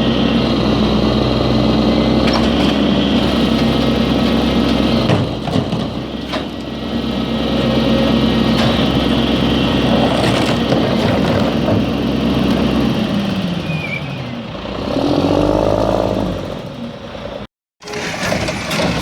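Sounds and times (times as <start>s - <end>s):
garbage truck engine revving: 0.0s - 19.0s.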